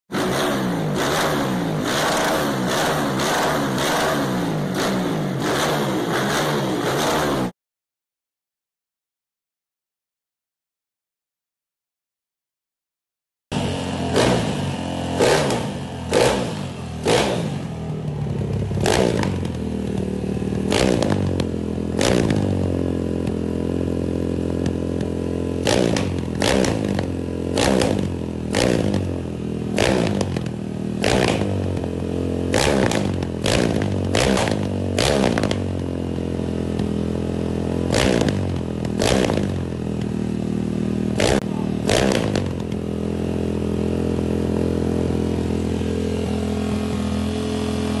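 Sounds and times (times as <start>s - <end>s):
motorcycle engine revving: 0.1s - 7.6s, 13.5s - 48.0s.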